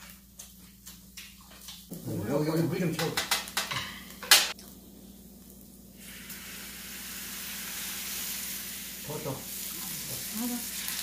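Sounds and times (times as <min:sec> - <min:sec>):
water sizzling on hot charcoal: 0:01.5 - 0:11.0.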